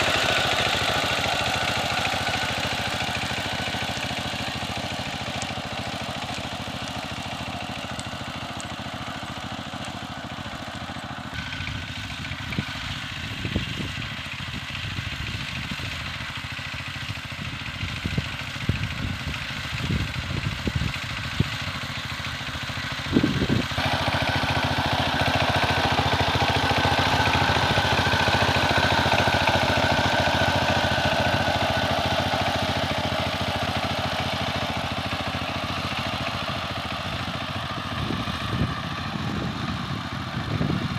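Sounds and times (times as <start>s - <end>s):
power tiller engine running: 0.0s - 40.9s.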